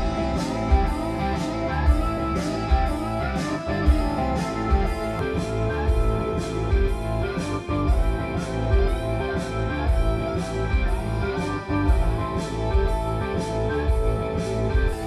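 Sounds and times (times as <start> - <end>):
heavy bass: 0.0 - 15.0
music through loudspeaker: 0.0 - 15.0
plucked guitar: 0.0 - 15.0
steady drum beat: 0.0 - 15.0.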